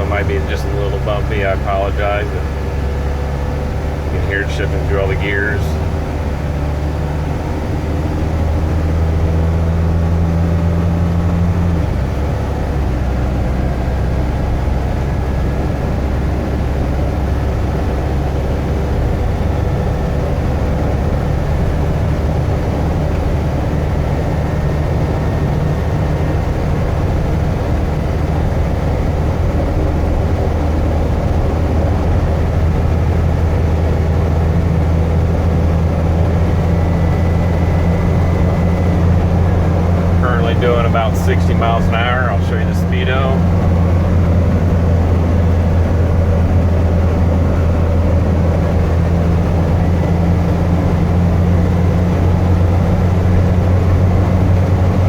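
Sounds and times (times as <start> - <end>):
road noise: 0.0 - 55.0
truck engine drone: 0.0 - 55.0.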